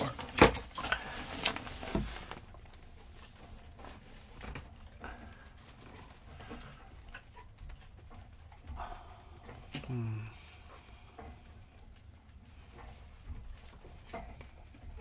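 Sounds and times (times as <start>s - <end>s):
faint rustling: 0.0s - 15.0s.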